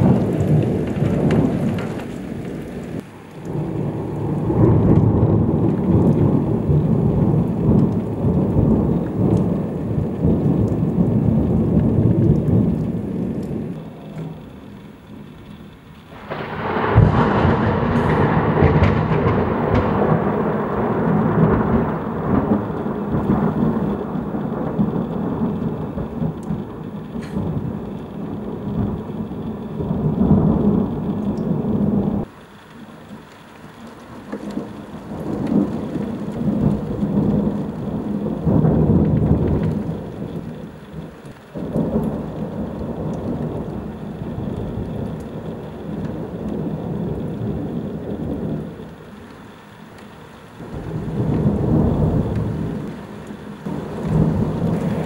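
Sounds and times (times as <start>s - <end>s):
heavy rain: 0.0s - 55.0s
thunder crack and rumble: 0.0s - 55.0s.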